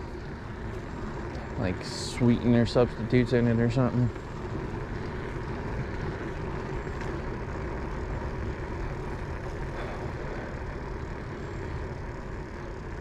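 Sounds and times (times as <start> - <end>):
bicycle riding rumble: 0.0 - 13.0
tyre road noise: 0.0 - 13.0.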